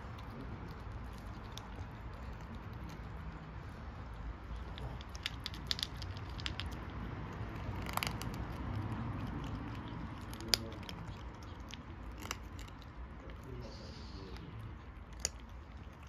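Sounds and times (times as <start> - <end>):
kittens crunching dry kibble: 0.0 - 16.0.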